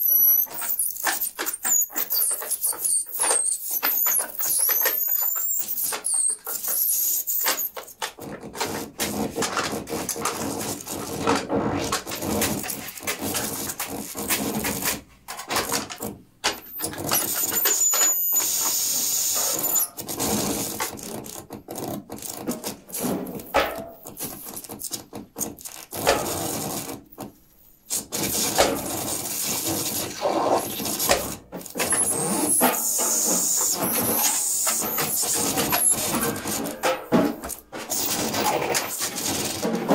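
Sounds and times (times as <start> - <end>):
scraping and clattering sounds: 0.0 - 39.9.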